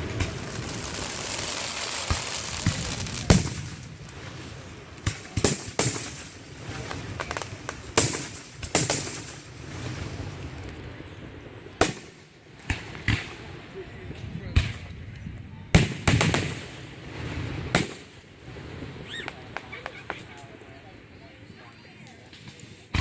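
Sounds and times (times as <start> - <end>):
fireworks bangs: 0.0 - 13.8, 15.7 - 20.6
fireworks crackling hiss: 0.0 - 14.9, 15.8 - 23.0.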